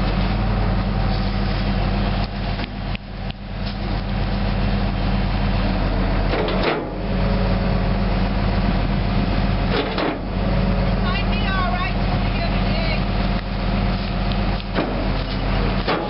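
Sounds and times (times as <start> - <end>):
machine engine humming: 0.0 - 16.0.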